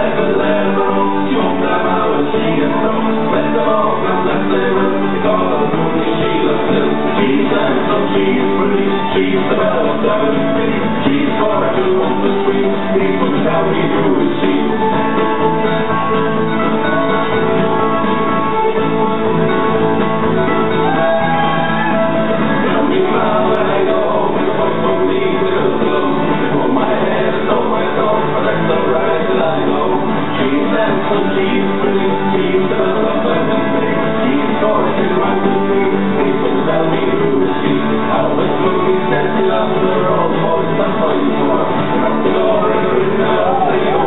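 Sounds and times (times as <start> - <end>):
country music with guitar: 0.0 - 44.0.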